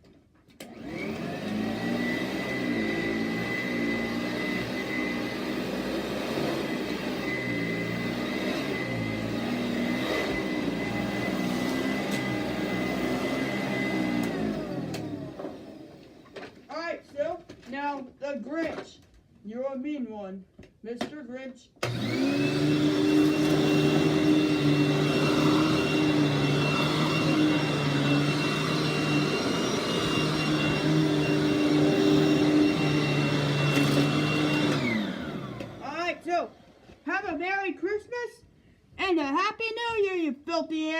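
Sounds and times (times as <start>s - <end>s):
vacuum cleaner whining: 0.0s - 18.0s, 21.8s - 37.7s.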